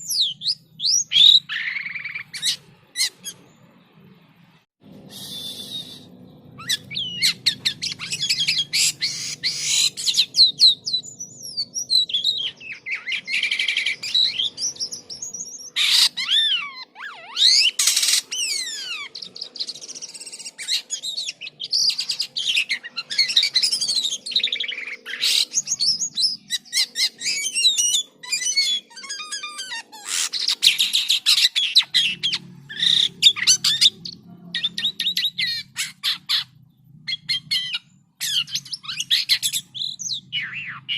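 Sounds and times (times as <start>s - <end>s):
starling singing: 0.0s - 4.0s, 4.9s - 40.9s.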